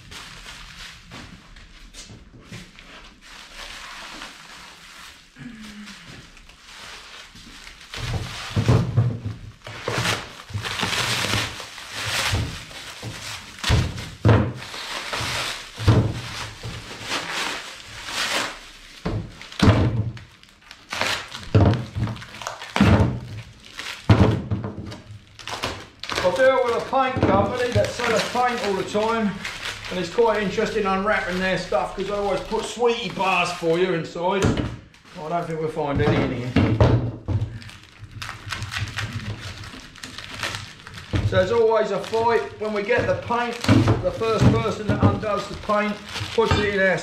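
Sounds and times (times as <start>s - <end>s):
packaging rustling: 0.0s - 36.6s, 37.4s - 47.0s.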